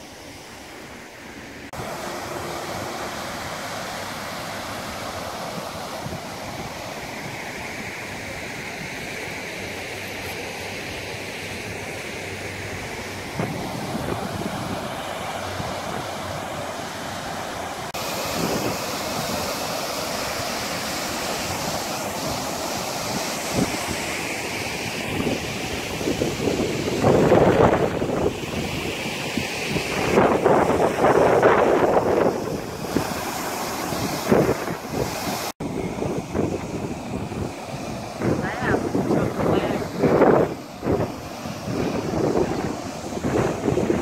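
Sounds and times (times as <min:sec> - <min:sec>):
water cascading over spillway: 0:00.0 - 0:44.0.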